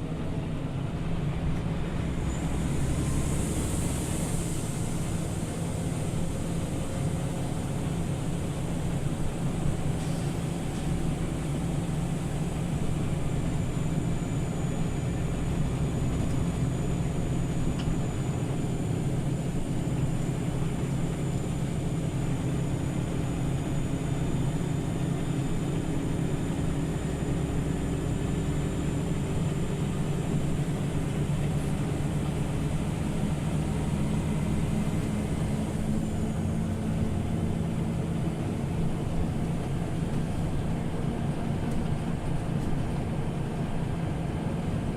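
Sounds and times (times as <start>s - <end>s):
bus engine and drivetrain hum: 0.0s - 44.9s
road noise: 0.0s - 44.9s.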